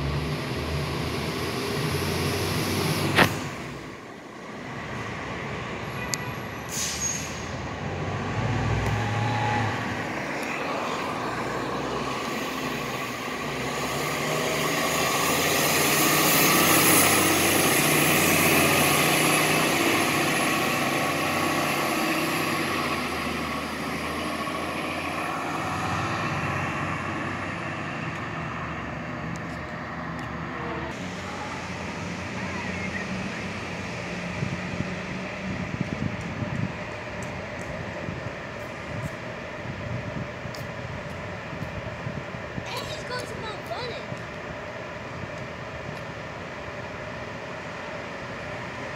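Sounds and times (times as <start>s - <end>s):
bus engine driving past: 0.0s - 48.9s.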